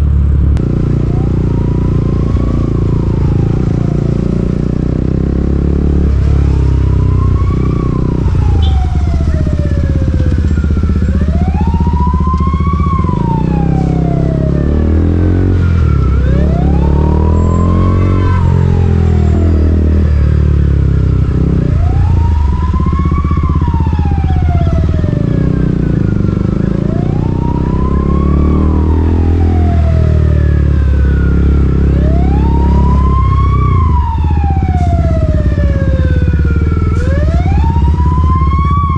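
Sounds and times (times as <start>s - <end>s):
motorcycle engine rumble: 0.0s - 38.9s
road noise: 0.0s - 38.9s
emergency siren wailing: 0.5s - 38.9s.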